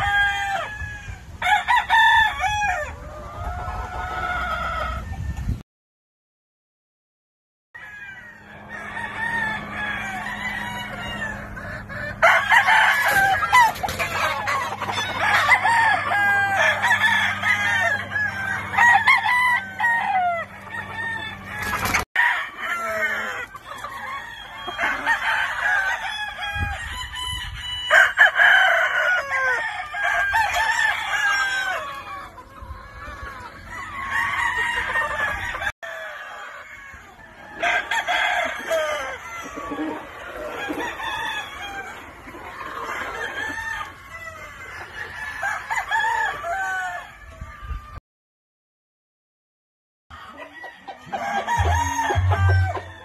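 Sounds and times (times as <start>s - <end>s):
roosters crowing: 0.0s - 5.5s, 7.8s - 48.0s, 50.1s - 53.0s
chickens clucking: 2.7s - 5.6s, 8.0s - 46.4s, 50.1s - 53.0s.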